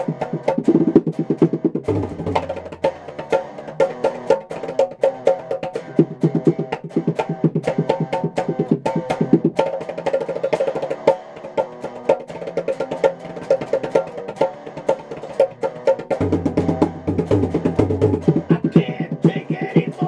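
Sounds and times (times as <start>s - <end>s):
clicking percussion beat: 0.0s - 20.0s
electric guitar riff: 0.0s - 20.0s.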